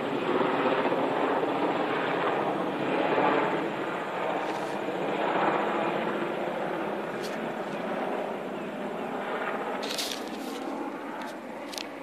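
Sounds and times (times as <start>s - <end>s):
helicopters flying overhead: 0.0s - 12.0s.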